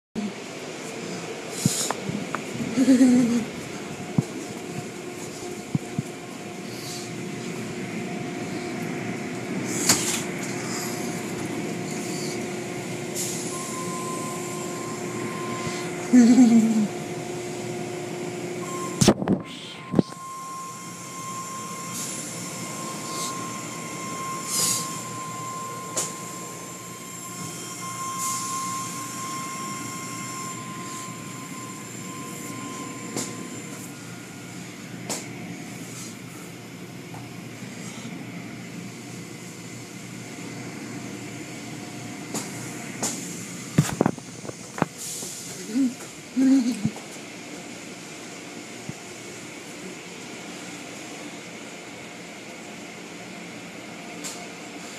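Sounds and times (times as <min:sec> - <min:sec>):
faint steady whine: 0:00.2 - 0:54.9
steady machinery noise: 0:00.2 - 0:54.9.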